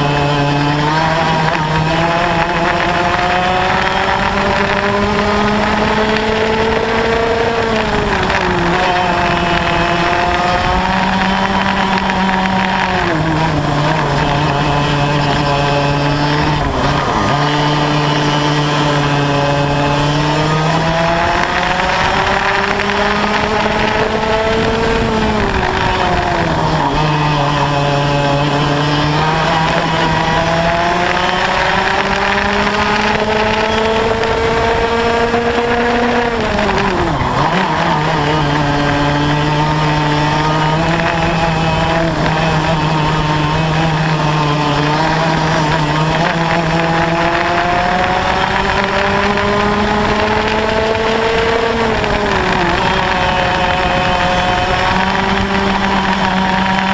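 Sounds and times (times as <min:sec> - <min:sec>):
two-stroke kart engine racing: 0:00.0 - 0:56.9.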